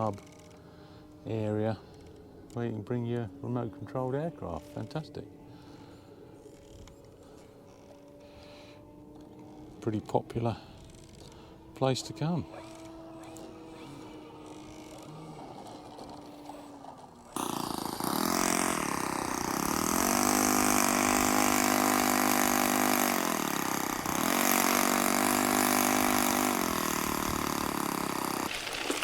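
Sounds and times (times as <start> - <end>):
engine running: 3.2 - 29.0.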